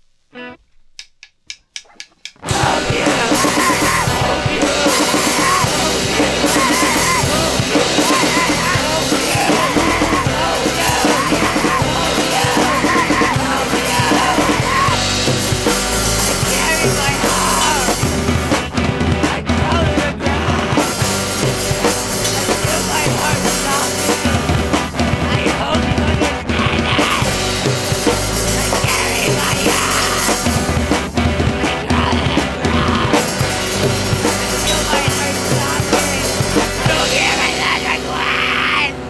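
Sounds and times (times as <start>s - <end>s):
punk rock song with yelled vocals: 2.4s - 39.0s.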